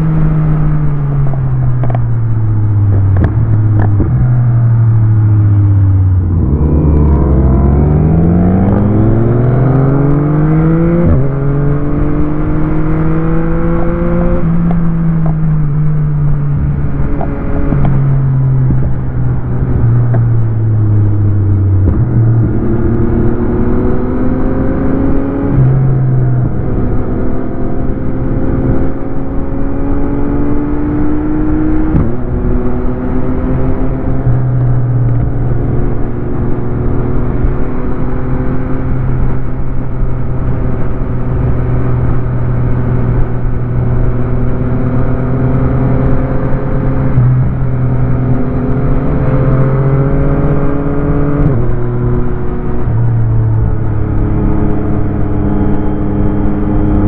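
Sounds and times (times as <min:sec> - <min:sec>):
wind rush: 0:01.0 - 0:57.0
motorcycle engine revving: 0:03.1 - 0:57.0.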